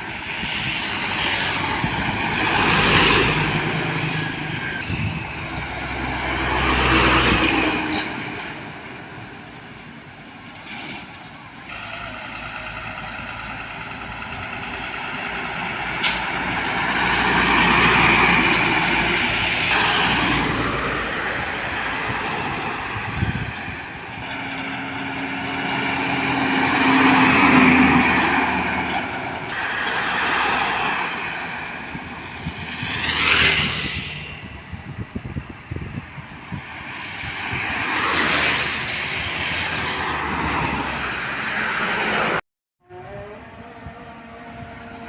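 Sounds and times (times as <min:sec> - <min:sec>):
heavy trucks driving past: 0:00.0 - 0:45.0.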